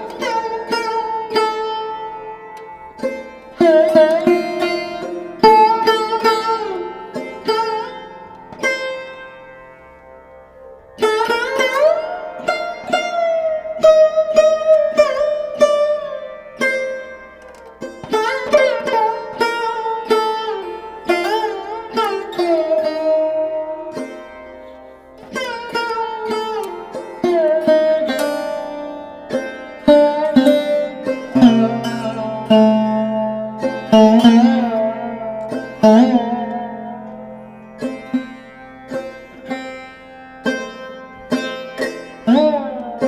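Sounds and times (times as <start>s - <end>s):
plucked string instrument music: 0.0s - 43.0s.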